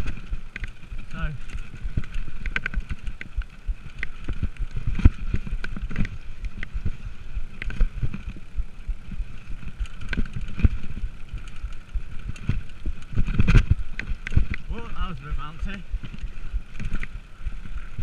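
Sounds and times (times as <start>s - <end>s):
bike rattling and knocking: 0.0s - 18.0s
tyres rumbling on dirt trail: 0.0s - 18.0s.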